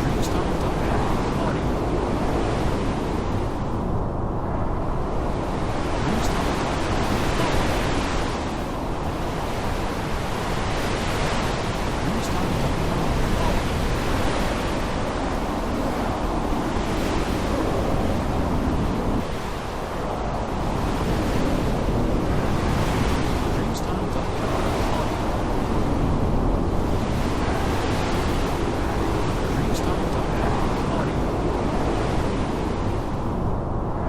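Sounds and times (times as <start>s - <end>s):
heavy rain: 0.0s - 3.9s, 5.0s - 33.3s
gusting wind: 0.0s - 34.0s.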